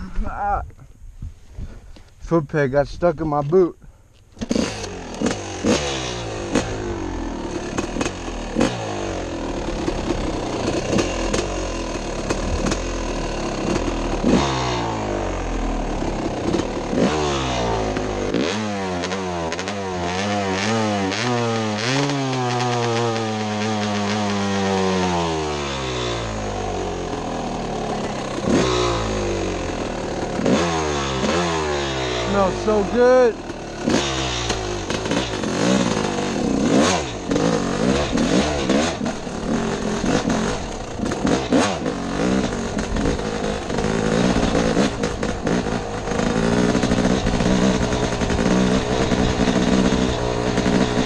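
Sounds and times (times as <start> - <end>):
dirt bike engine revving: 4.3 - 51.0.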